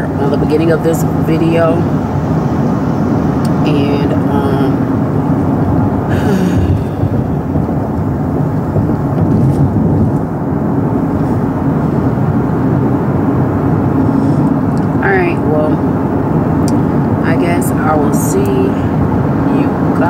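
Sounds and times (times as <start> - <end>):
car interior rumble: 0.0 - 20.0.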